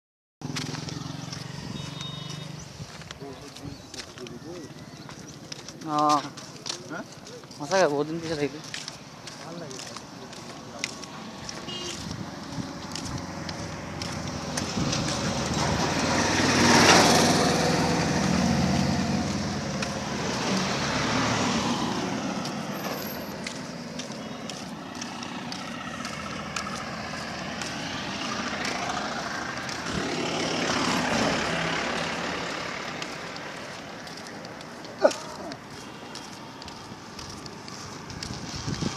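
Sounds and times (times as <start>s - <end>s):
vehicles passing: 0.4s - 38.9s.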